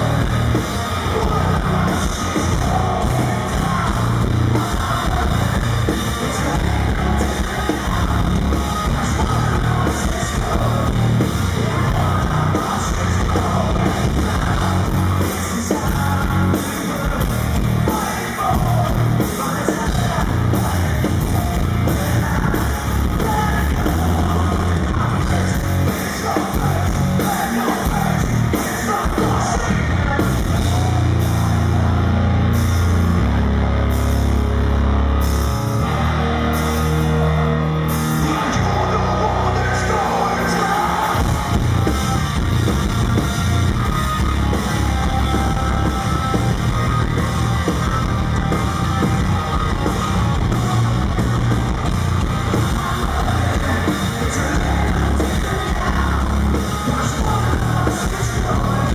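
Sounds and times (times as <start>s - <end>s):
long held low bass notes: 0.0s - 19.2s, 29.2s - 58.9s
heavy rock band playing live: 0.0s - 58.9s.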